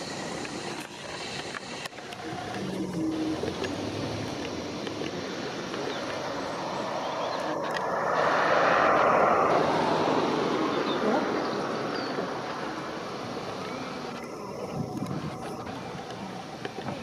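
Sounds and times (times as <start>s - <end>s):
jet airliner engine roar: 0.0s - 17.0s.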